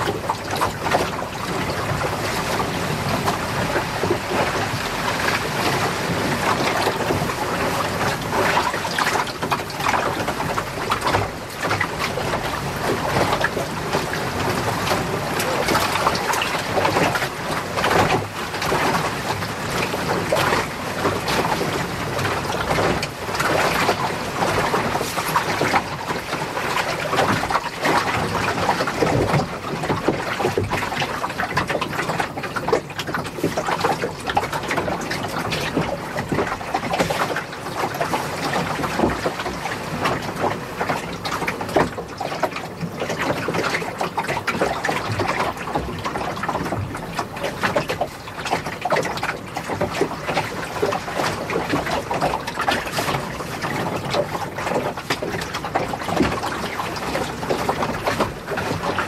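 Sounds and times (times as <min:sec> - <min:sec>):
water splashing against hull: 0:00.0 - 0:59.0.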